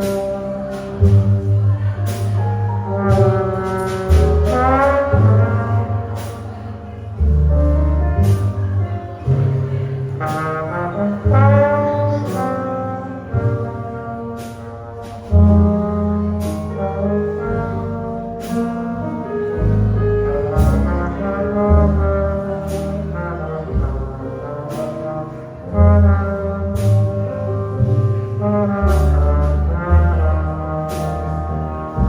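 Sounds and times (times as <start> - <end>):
drum kit strokes: 0.0 - 32.0
jazz combo playing ballad: 0.0 - 32.0
low bass notes: 0.0 - 32.0
trombone long notes: 0.0 - 32.0.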